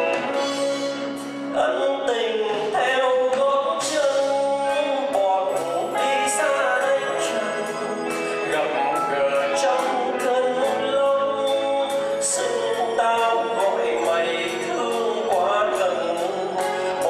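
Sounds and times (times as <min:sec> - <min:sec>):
band with keyboard guitars drums: 0:00.0 - 0:17.0
man singing a ballad: 0:01.5 - 0:17.0.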